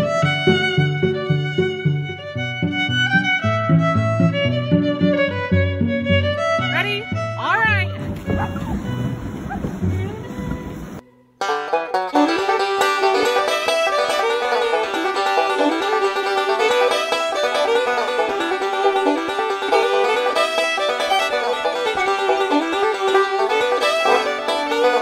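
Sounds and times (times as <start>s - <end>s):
upbeat bluegrass banjo music: 0.0s - 25.0s.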